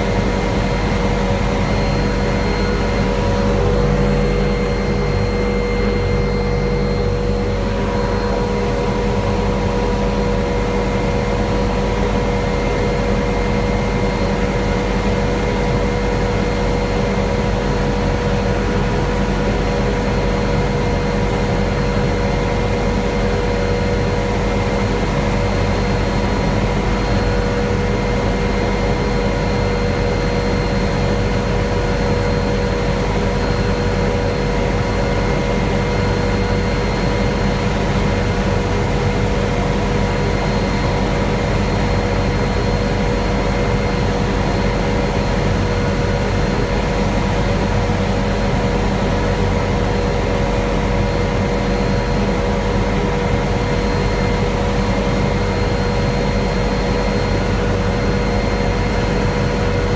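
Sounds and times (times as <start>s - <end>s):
helicopter rotor and engine drone: 0.0s - 59.9s
high whine: 0.0s - 59.9s.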